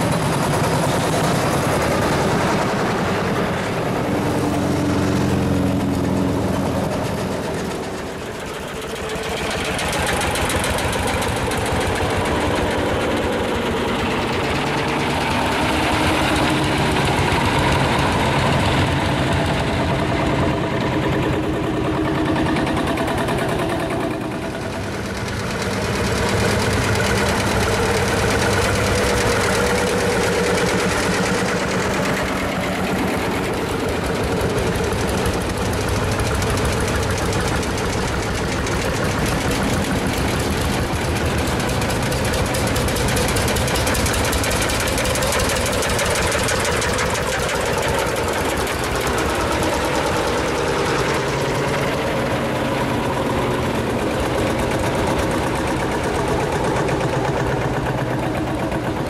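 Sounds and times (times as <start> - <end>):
diesel tractor engines chugging: 0.0 - 59.0.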